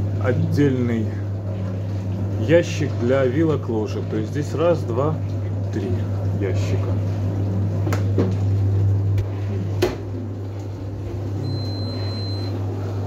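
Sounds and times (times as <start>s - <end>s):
dishwasher humming: 0.0s - 13.0s.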